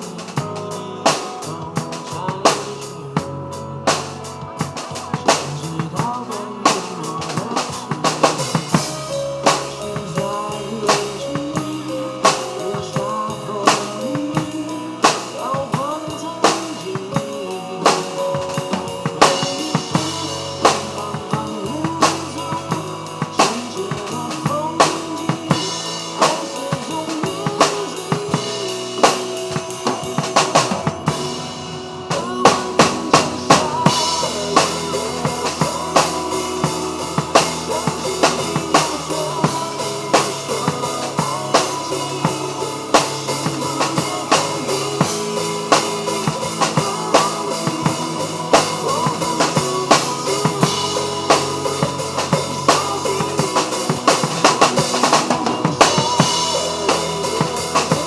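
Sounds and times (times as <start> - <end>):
live drum kit beat: 0.0 - 58.0
pop ballad backing track: 0.0 - 58.0.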